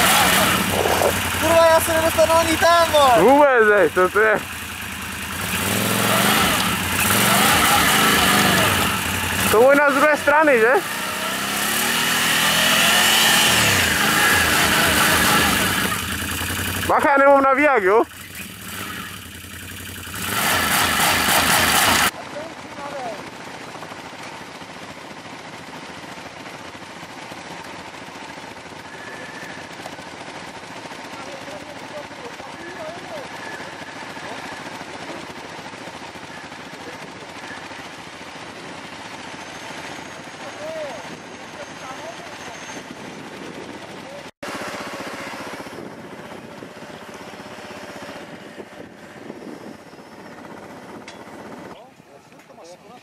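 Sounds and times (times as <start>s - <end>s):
atv engine pulsing: 0.0s - 53.0s.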